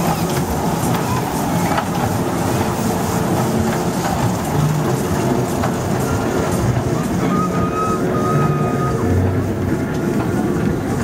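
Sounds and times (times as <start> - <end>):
small train rolling on track: 0.0 - 11.0.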